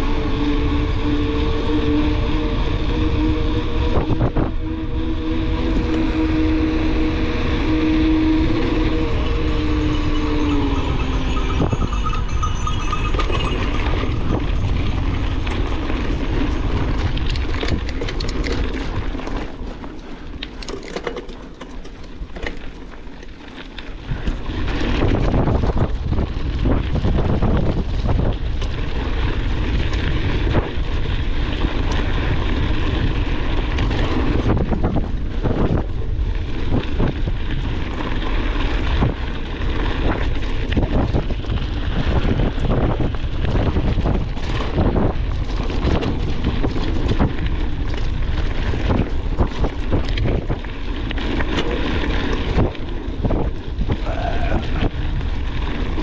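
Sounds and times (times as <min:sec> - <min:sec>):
mountain bike rattling: 0:00.0 - 0:56.0
wind noise on microphone: 0:00.0 - 0:56.0.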